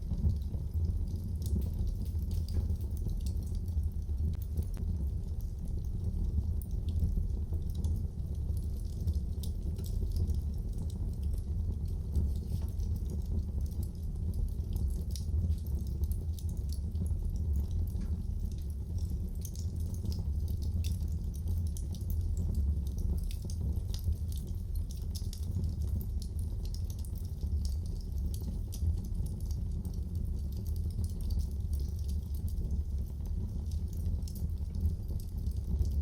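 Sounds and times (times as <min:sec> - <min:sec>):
fire flames rumbling: 0:00.0 - 0:36.0
wood fire crackling and popping: 0:00.0 - 0:36.0.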